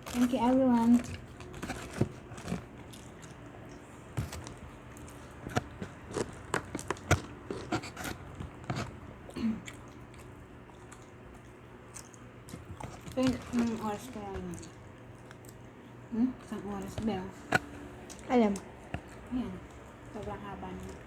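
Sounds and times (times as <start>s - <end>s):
person chewing crunchy food: 0.0s - 21.0s.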